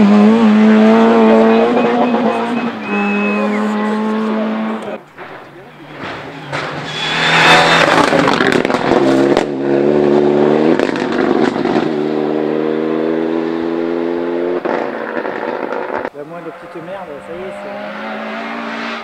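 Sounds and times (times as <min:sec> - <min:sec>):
rally car passing and accelerating: 0:00.0 - 0:19.0.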